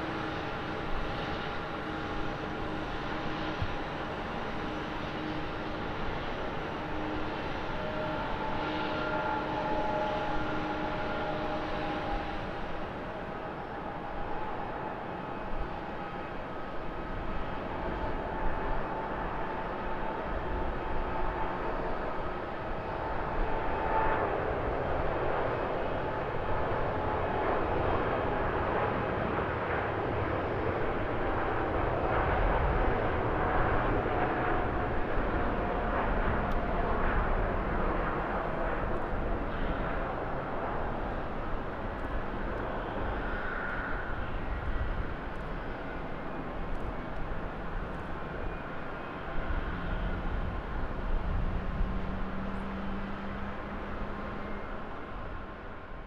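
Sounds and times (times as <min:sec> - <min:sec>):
faint jet whine: 0:00.0 - 0:56.0
jet engine roar: 0:00.0 - 0:56.0.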